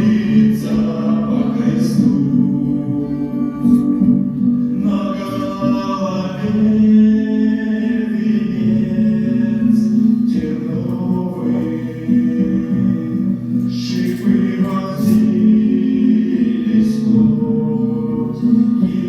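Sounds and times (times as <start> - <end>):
voices singing long notes: 0.0 - 19.0.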